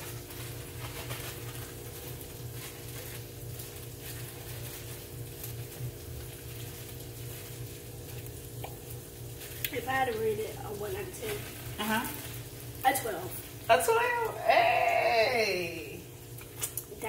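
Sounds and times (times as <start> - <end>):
low electrical hum: 0.0 - 17.0
oil sizzling in a pan: 0.0 - 17.0.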